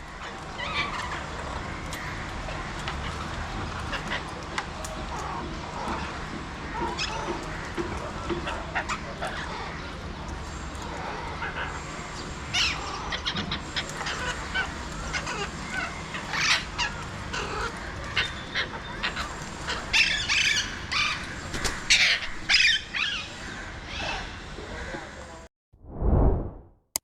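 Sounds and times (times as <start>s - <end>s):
parakeets squawking: 0.0s - 24.8s.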